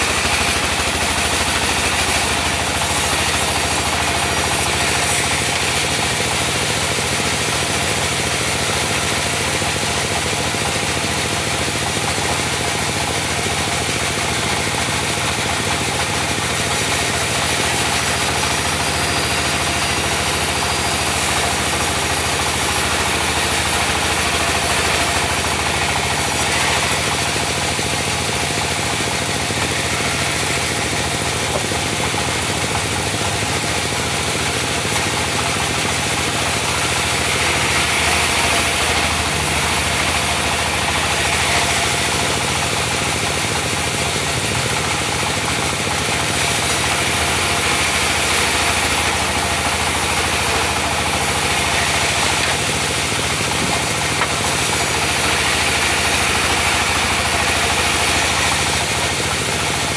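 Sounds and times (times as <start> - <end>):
diesel engine running: 0.0 - 59.9
sawmill whirring: 0.0 - 59.9.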